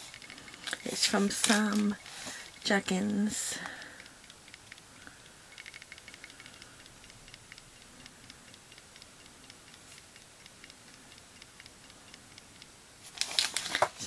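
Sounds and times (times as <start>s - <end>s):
faint even ticking: 0.0s - 12.8s.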